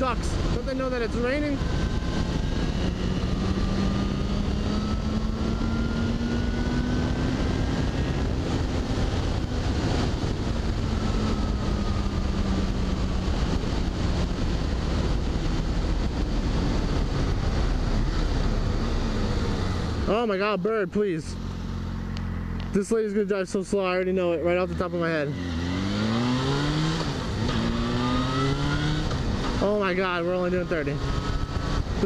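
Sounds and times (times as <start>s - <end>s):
wind rush on microphone: 0.0s - 20.1s, 25.5s - 32.0s
motorcycle engine cruising: 0.0s - 32.0s.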